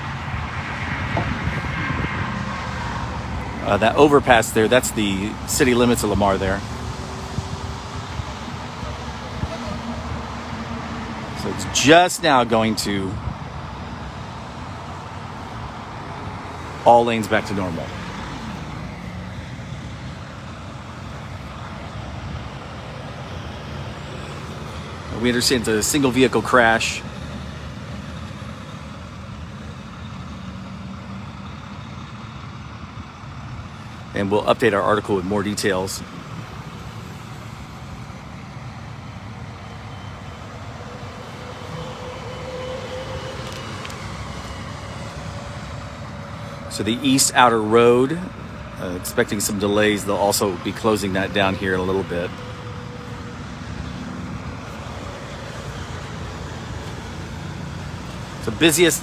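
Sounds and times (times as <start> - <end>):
faint vehicle hum: 0.0 - 59.0
highway traffic: 0.0 - 59.0.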